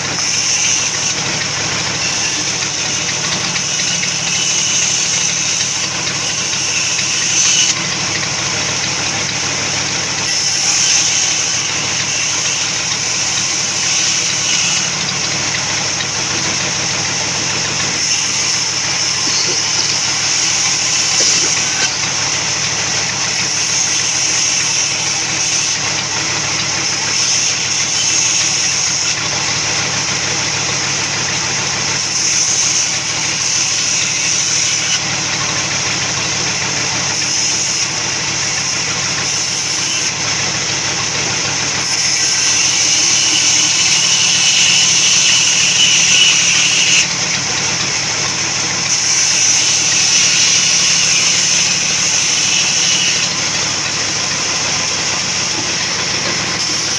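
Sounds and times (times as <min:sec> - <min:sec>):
sawmill saw running: 0:00.0 - 0:56.9.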